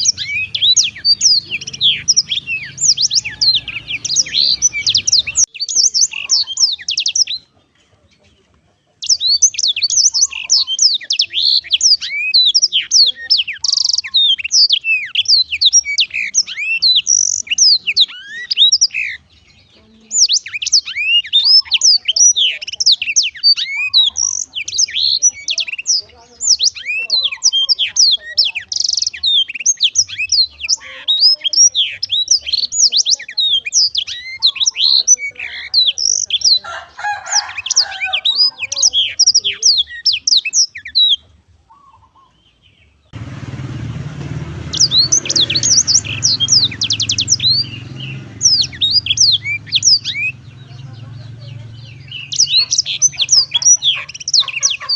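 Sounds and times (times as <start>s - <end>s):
canary singing: 0.0s - 54.9s.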